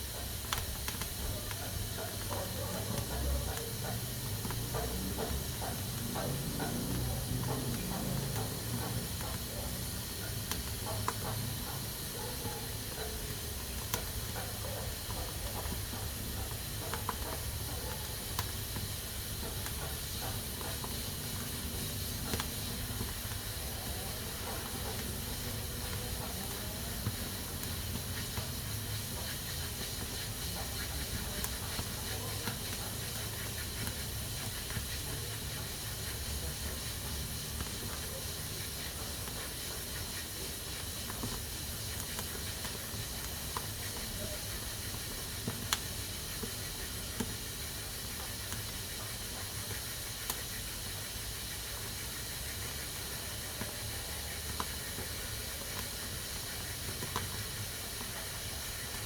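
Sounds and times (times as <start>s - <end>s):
pressure cooker hissing: 0.0s - 59.0s.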